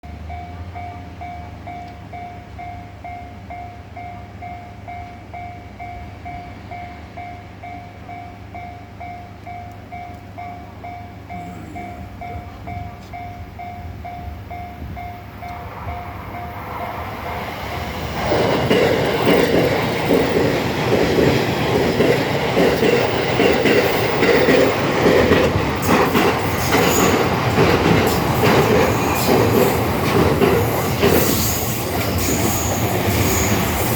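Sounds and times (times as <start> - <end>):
train wheels on rails: 0.1 - 33.9.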